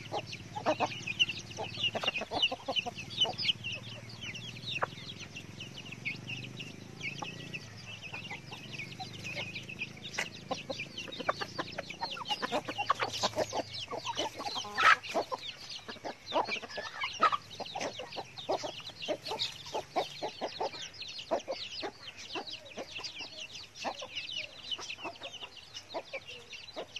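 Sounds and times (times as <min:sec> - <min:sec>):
chickens clucking: 0:00.0 - 0:26.9
chicks peeping: 0:00.0 - 0:26.9.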